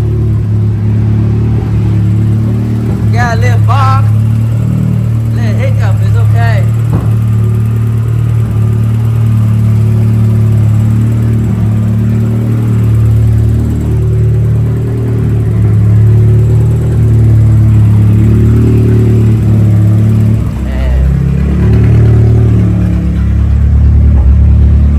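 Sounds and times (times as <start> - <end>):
pickup engine idling loudly: 0.0 - 24.9.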